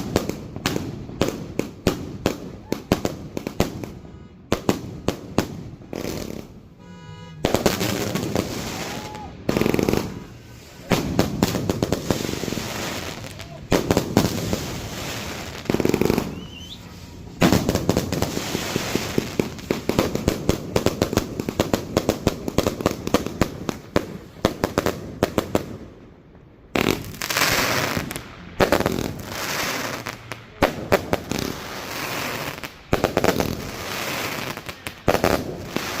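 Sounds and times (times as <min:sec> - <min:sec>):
crackling firework bursts: 0:00.0 - 0:36.0.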